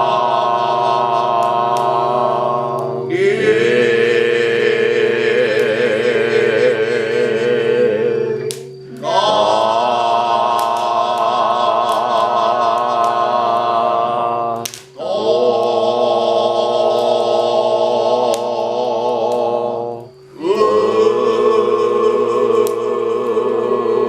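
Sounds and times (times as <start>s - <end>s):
voices chanting long held tones: 0.0s - 24.0s.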